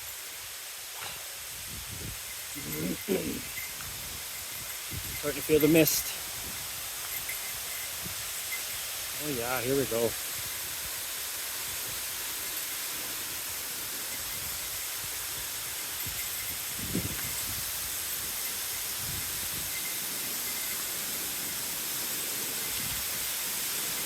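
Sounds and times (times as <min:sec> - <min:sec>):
waterfall hissing: 0:00.0 - 0:24.0.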